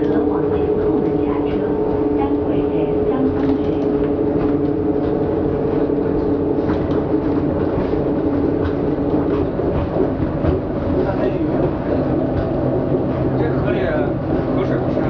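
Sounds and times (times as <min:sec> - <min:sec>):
tram cabin rumble: 0:00.0 - 0:15.0.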